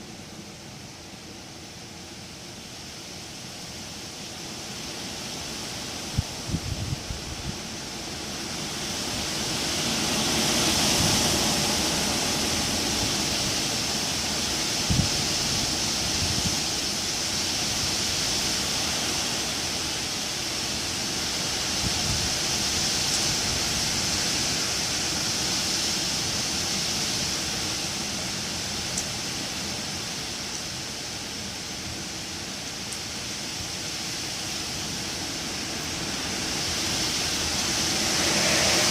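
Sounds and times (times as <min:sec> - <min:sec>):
wind rushing through leaves: 0:00.0 - 0:38.9.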